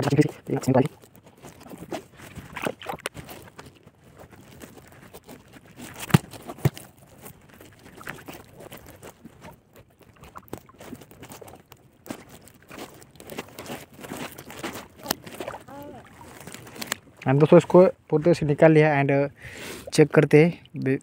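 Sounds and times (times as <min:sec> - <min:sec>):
plastic sheet crinkling: 0:00.0 - 0:17.0
gill net rustling: 0:00.0 - 0:17.8.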